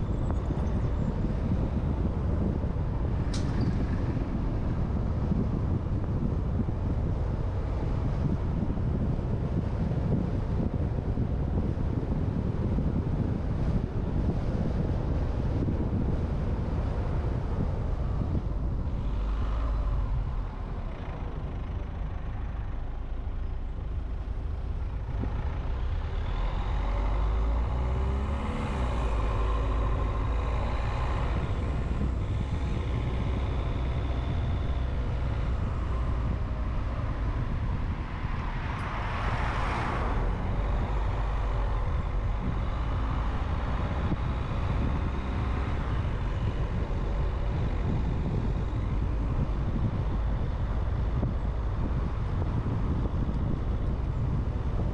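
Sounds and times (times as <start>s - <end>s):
car engine and road noise: 0.0s - 54.9s
passing vehicles: 0.0s - 54.9s.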